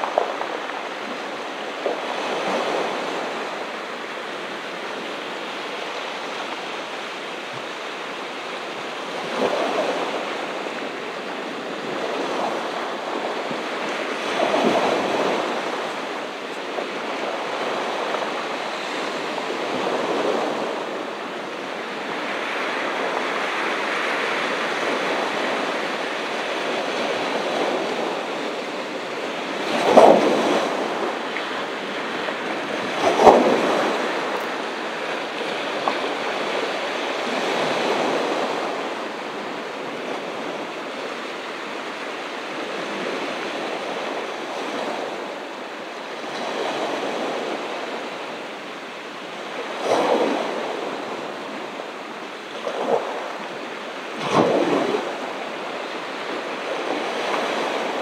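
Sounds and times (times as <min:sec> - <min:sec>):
ocean surf washing onto beach: 0:00.0 - 0:58.0.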